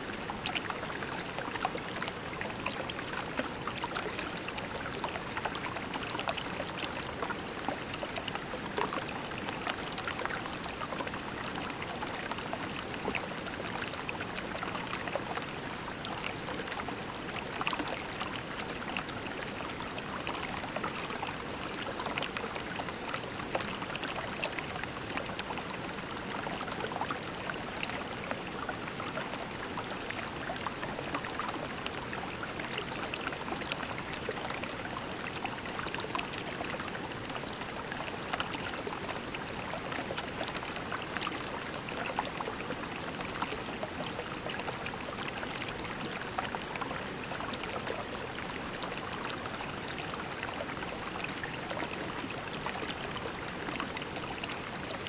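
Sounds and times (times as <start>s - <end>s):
creek flowing over pebbles: 0.0s - 55.0s.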